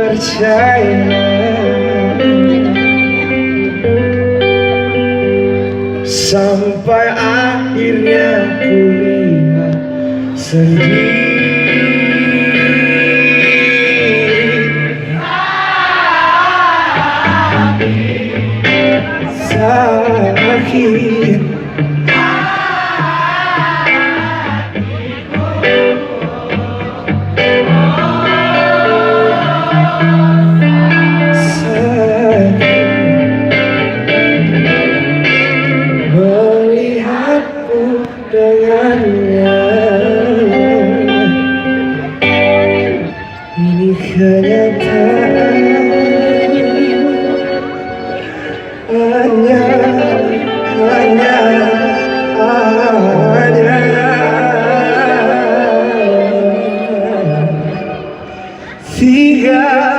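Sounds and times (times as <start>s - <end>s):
live band with guitar: 0.0s - 59.9s
person singing: 0.0s - 59.9s.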